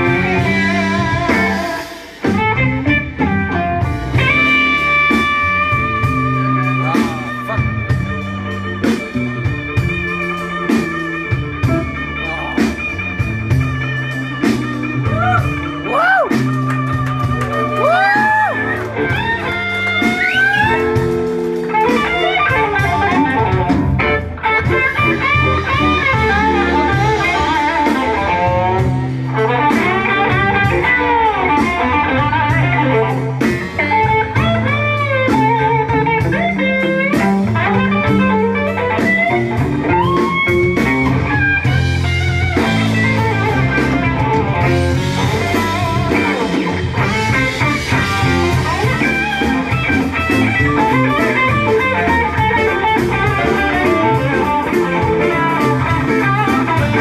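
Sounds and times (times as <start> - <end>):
blues band playing: 0.0 - 57.0
electric guitar bent notes: 0.0 - 57.0.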